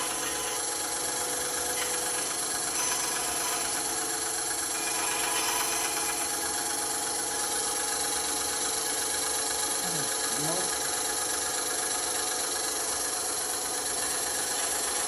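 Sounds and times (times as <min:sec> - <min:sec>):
band saw running: 0:00.0 - 0:10.5, 0:12.8 - 0:15.0.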